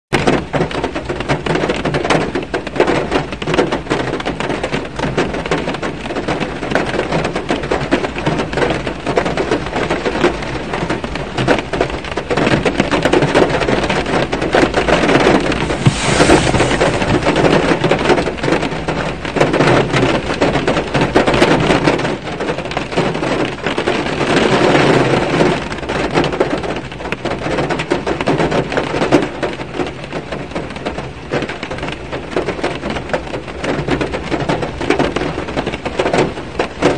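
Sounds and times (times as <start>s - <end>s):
rain pattering on a car: 0.1s - 36.9s.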